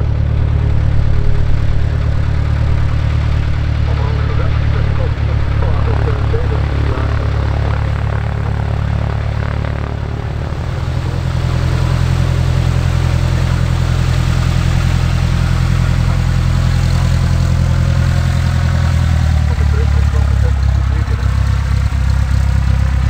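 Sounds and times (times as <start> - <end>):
light aircraft engine and propeller: 0.0 - 23.0.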